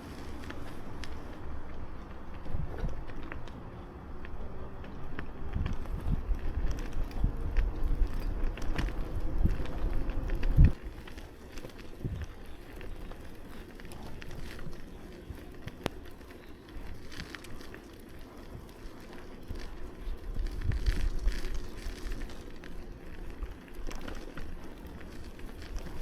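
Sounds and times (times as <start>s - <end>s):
bicycle tyres and wind rumbling: 0.0s - 26.0s
clicks and crackles: 0.0s - 26.0s.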